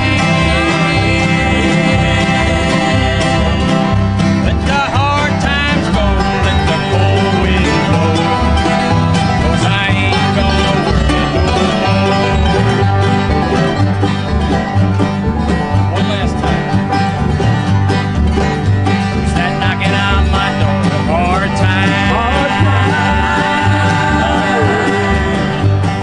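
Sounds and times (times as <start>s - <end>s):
acoustic guitar: 0.0s - 26.0s
bass rhythm: 0.0s - 26.0s
picked banjo: 0.0s - 26.0s.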